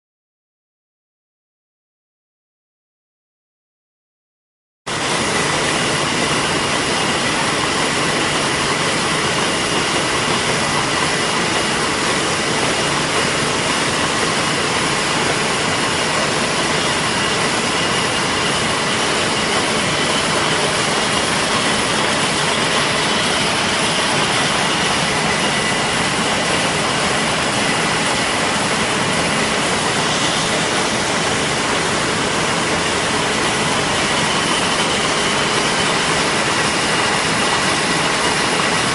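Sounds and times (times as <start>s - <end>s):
machine clattering: 4.9s - 38.9s.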